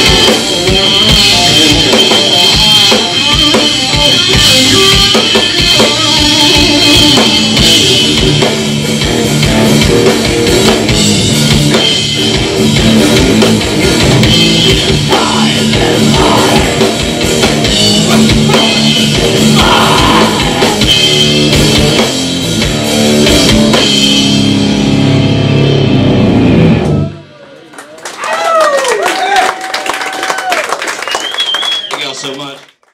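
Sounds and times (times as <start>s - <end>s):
drum kit beat: 0.0s - 26.7s
electric guitar: 0.0s - 27.7s.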